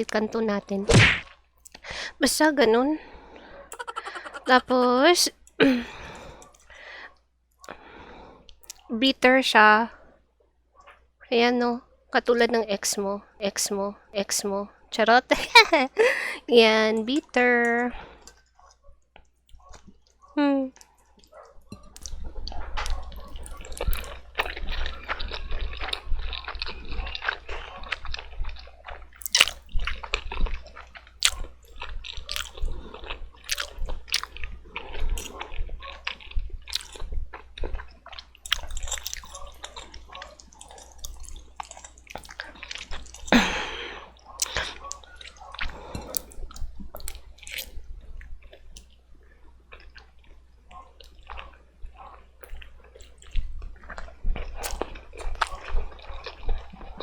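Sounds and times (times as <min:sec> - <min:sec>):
noodles slurped and chewed: 0:01.3 - 0:09.0, 0:15.3 - 0:57.0.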